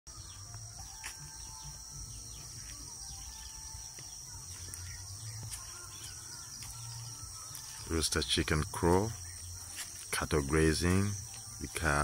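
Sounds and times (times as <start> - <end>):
bird chirps: 0.1 - 12.0
insects chorus: 0.1 - 12.0.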